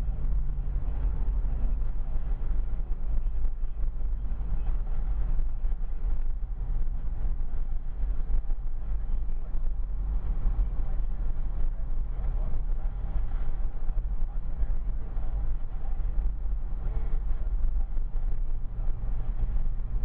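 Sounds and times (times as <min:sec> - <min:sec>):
car engine and road noise: 0:00.0 - 0:20.0
wind noise: 0:00.0 - 0:20.0.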